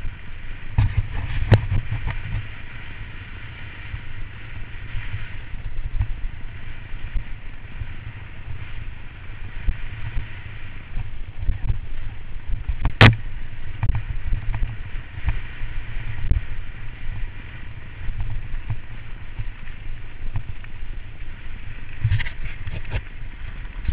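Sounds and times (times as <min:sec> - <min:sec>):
bike rolling over gravel: 0:00.0 - 0:23.9.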